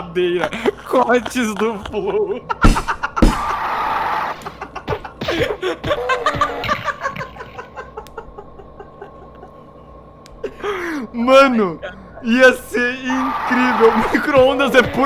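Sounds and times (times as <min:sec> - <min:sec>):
people laughing: 0:00.0 - 0:12.3, 0:12.9 - 0:15.0.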